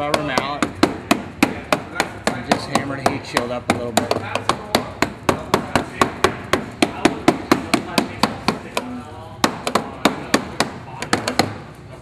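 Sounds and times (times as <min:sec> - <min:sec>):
rubber mallet tapping metal: 0:00.0 - 0:11.6.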